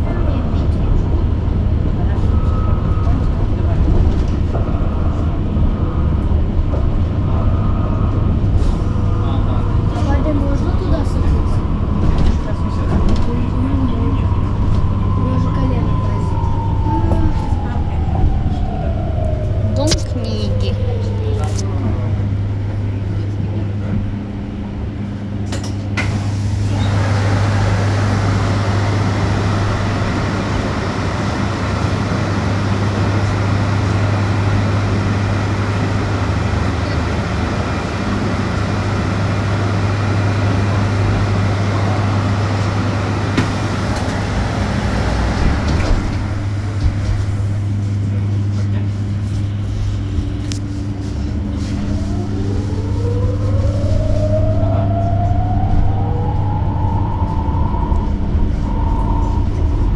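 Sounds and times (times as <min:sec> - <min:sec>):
bus interior low hum: 0:00.0 - 0:59.9
road and tyre noise: 0:00.0 - 0:59.9.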